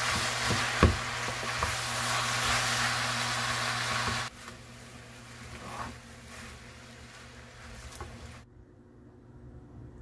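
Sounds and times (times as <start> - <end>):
food sizzling in a frying pan: 0.0 - 8.4.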